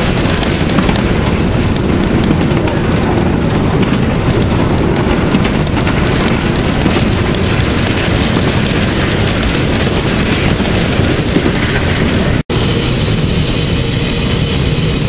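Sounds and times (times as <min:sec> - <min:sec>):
steam locomotive running: 0:00.0 - 0:15.0
wind noise on microphone: 0:00.0 - 0:15.0.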